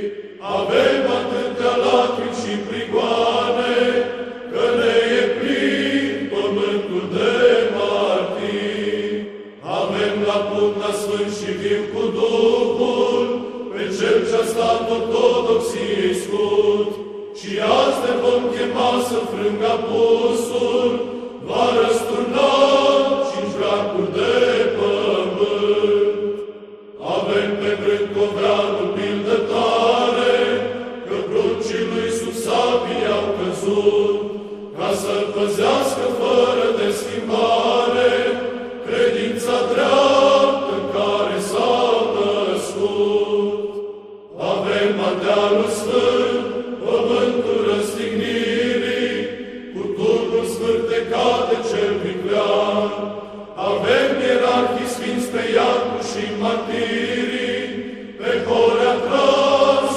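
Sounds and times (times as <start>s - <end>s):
chanted singing: 0.0s - 59.9s.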